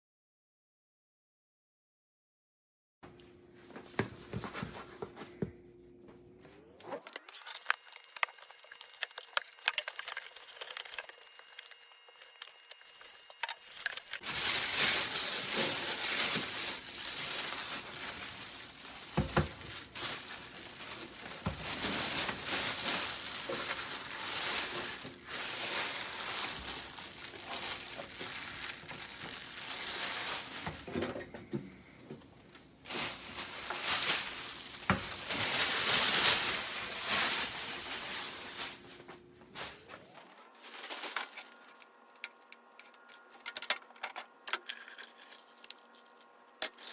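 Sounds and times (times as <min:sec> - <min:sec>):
packaging crinkling and rustling: 0:07.2 - 0:46.9.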